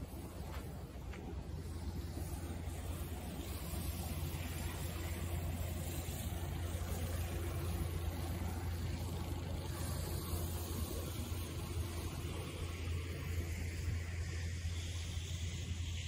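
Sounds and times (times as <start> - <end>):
snow plow engine hum: 0.0 - 16.0
soft hiss: 0.0 - 16.0.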